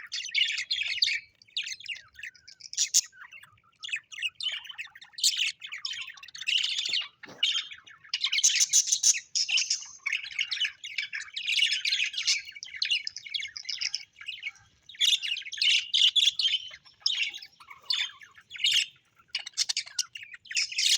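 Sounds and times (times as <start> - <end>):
parrots chirping and squawking: 0.0 - 20.9.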